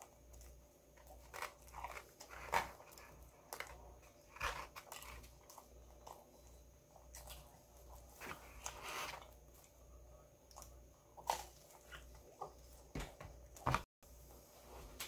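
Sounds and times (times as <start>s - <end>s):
person chewing food: 0.0s - 12.9s.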